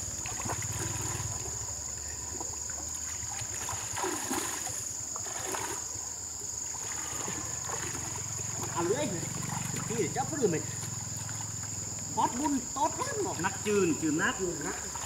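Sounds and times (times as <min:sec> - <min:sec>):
water sloshing as people wade: 0:00.0 - 0:15.0.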